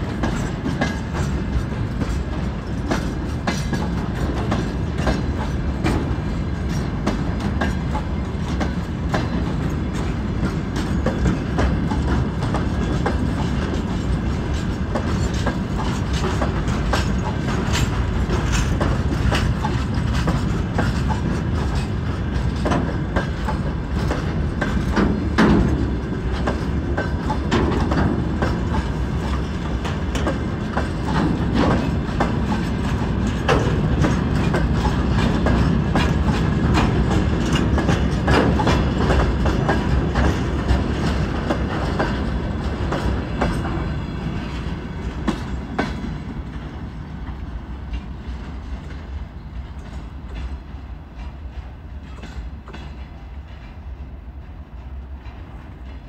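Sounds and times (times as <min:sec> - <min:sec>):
freight wagons rumbling: 0:00.0 - 0:56.0
wheels clacking over rail joints: 0:00.0 - 0:56.0.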